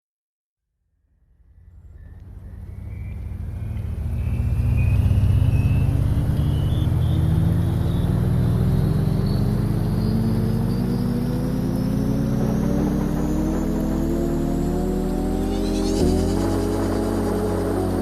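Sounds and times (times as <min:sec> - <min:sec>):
car engine running: 0:01.4 - 0:18.0
thin rising whine: 0:01.4 - 0:18.0.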